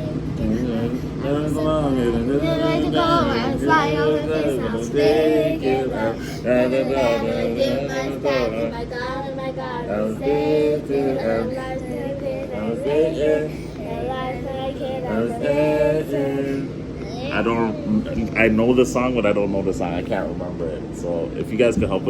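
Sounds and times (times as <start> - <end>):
children singing unaccompanied: 0.0 - 18.2.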